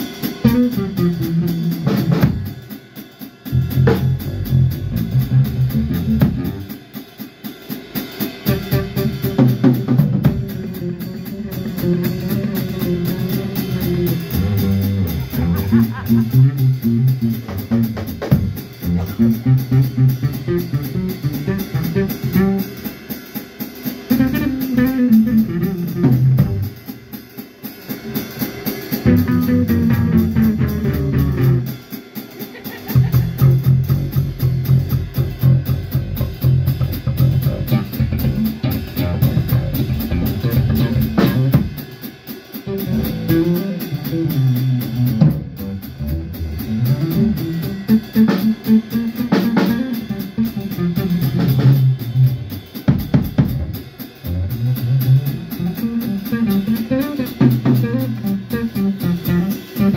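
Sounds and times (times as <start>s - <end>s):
band playing music: 0.0s - 7.0s, 7.7s - 59.9s
drum kit: 0.0s - 59.9s
guitar: 0.3s - 2.5s, 8.4s - 22.6s, 24.1s - 26.8s, 29.0s - 31.8s, 32.4s - 41.8s, 42.6s - 54.5s, 55.1s - 59.9s.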